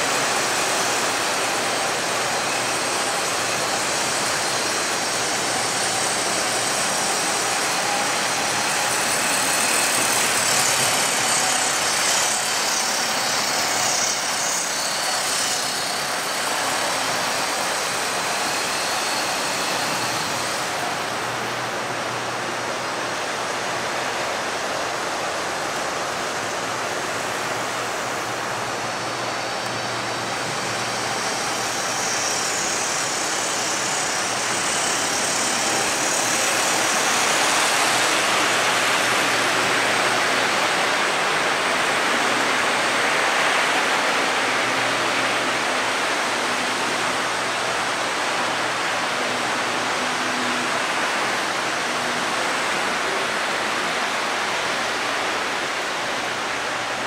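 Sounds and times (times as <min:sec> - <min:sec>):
model trains rolling whir: 0:00.0 - 0:57.0.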